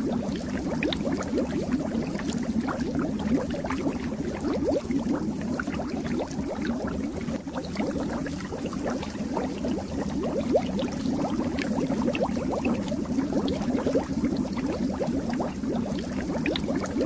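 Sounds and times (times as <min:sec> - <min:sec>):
fish tank water bubbling: 0:00.0 - 0:17.0.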